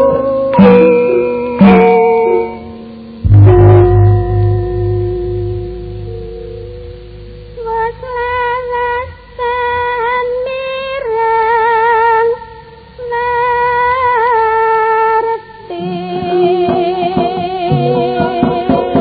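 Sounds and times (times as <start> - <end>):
steady held tone: 0.0 - 19.0.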